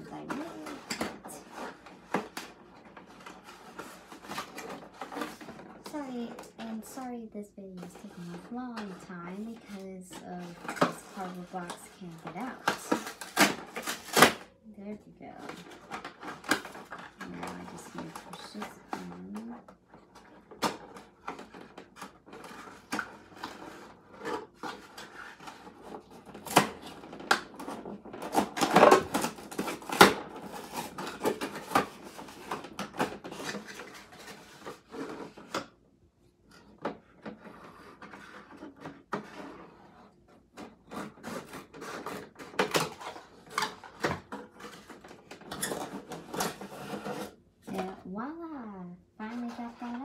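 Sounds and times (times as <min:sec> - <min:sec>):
cardboard scraping on plastic: 0:00.0 - 0:07.0, 0:07.6 - 0:35.8, 0:36.5 - 0:48.0.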